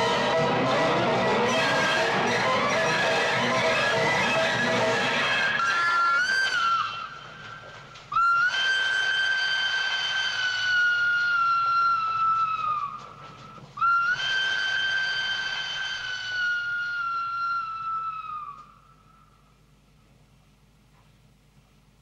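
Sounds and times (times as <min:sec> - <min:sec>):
train whistle blasts: 0:00.0 - 0:19.4.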